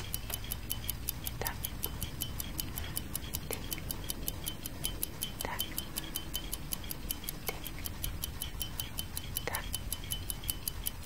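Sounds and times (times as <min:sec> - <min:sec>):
fast clock ticking: 0:00.0 - 0:11.0
softer lower tick: 0:00.0 - 0:11.0.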